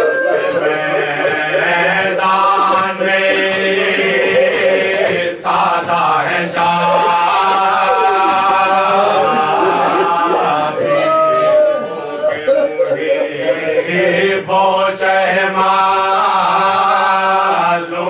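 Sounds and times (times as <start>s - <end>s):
men chanting in unison: 0.0s - 18.0s.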